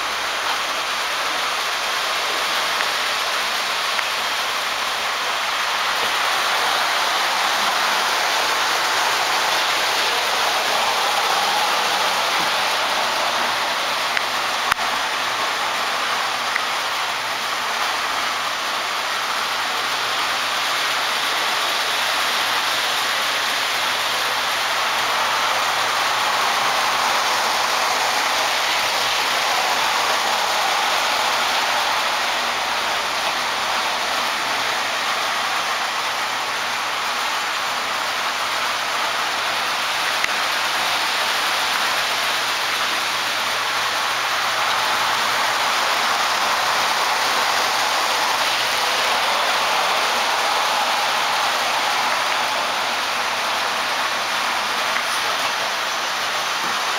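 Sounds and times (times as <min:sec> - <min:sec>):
model trains whirring on track: 0:00.0 - 0:56.9.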